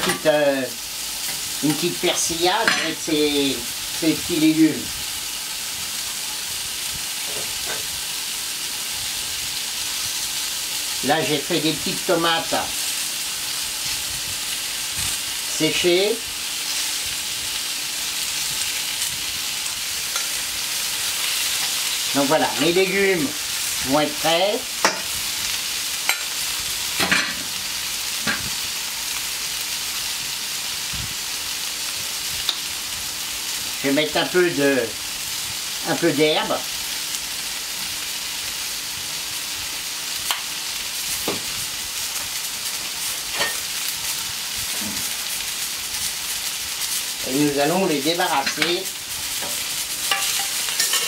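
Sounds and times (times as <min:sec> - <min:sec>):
vegetables sizzling on hot plate: 0:00.0 - 0:51.0.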